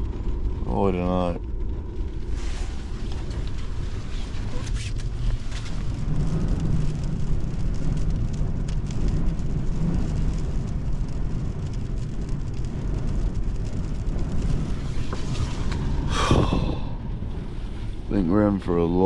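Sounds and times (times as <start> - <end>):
rain pattering on a roof: 0.0 - 19.0
strong wind buffeting a car: 0.0 - 19.0.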